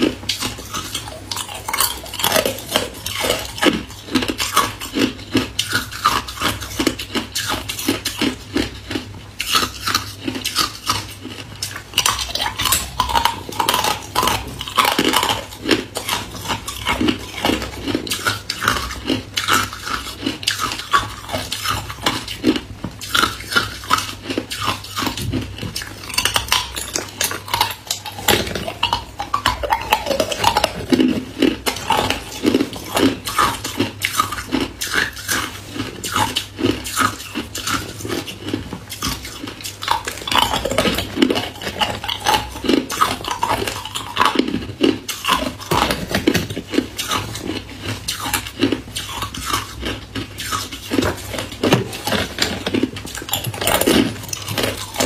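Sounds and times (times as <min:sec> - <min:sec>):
person crunching ice: 0:00.0 - 0:55.0.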